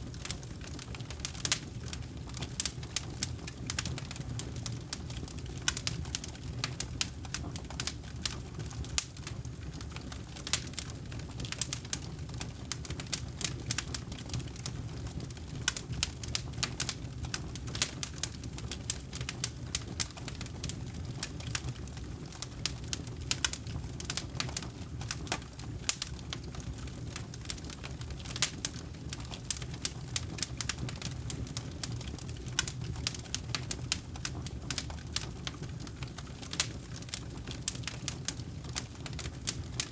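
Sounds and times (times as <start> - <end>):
burning wood crackling: 0.0 - 39.9
low rumble of flames: 0.0 - 39.9.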